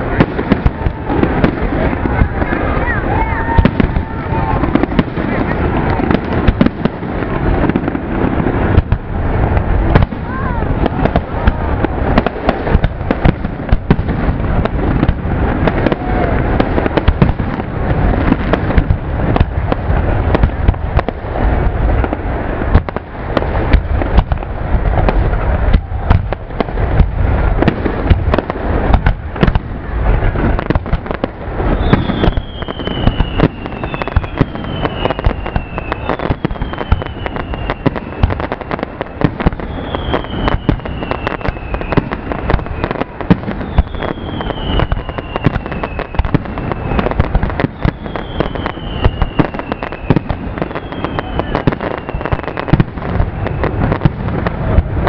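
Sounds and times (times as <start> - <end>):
falling firework whistle: 0.0 - 21.0, 30.2 - 55.0
fireworks bursting and crackling: 0.0 - 55.0.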